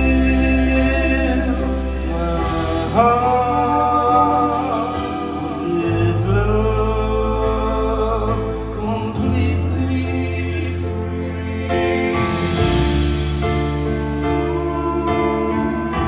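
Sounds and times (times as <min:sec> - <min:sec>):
live rock band playing: 0:00.0 - 0:16.0
long held bass notes: 0:00.0 - 0:16.0
man singing: 0:00.0 - 0:16.0.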